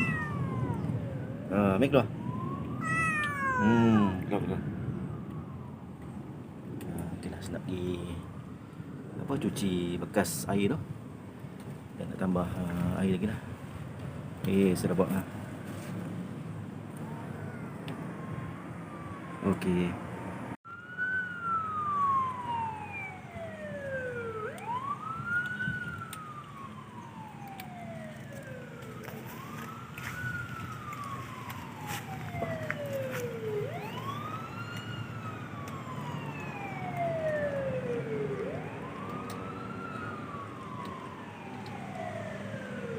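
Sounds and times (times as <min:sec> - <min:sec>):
wailing siren: 0:00.0 - 0:11.1, 0:14.8 - 0:42.9.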